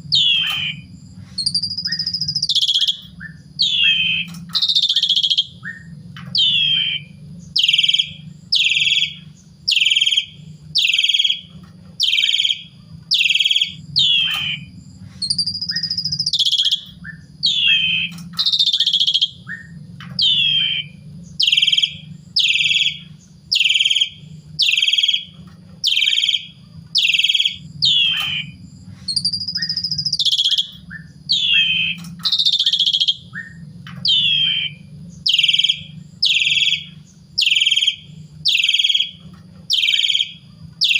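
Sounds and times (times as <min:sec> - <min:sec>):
starling whistling song: 0:00.0 - 0:40.9
steady low hum: 0:00.0 - 0:40.9.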